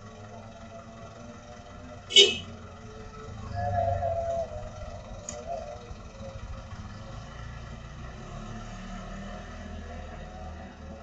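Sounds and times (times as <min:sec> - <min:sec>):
truck engine running: 0:00.0 - 0:11.0
motorcycle moving off: 0:01.2 - 0:11.0.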